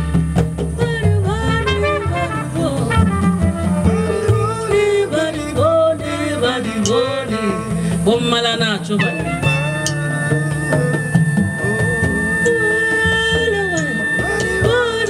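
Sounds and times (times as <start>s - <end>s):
live band playing jazz: 0.0s - 15.0s.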